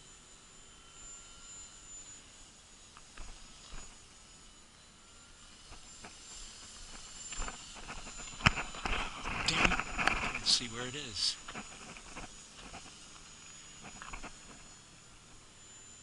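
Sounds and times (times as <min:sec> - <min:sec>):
high whine of electric model plane: 0:00.0 - 0:16.0.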